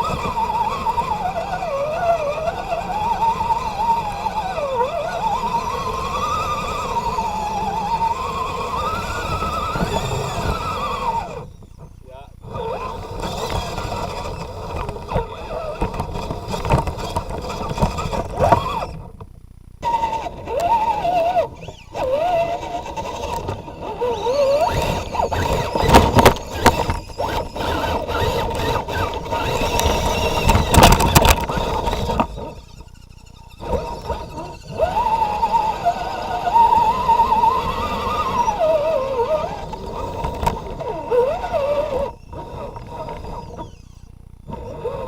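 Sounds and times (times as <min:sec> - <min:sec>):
rc truck electric motor whining: 0:00.0 - 0:45.0
rumbling and scraping over ground: 0:00.0 - 0:45.0.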